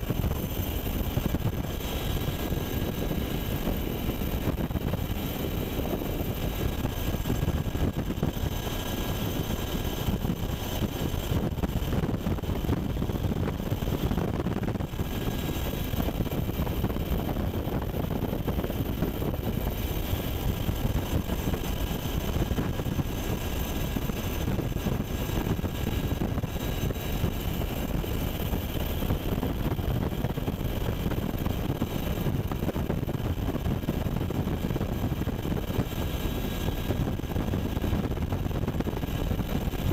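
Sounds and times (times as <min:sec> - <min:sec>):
helicopter engine and rotor rumble: 0:00.0 - 0:39.9.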